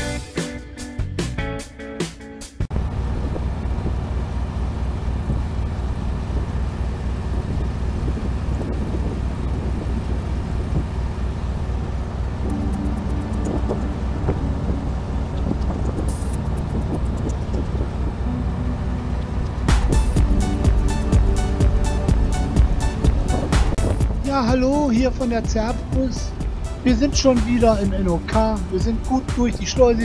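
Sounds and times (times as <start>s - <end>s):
boat engine throbbing: 2.7s - 30.0s.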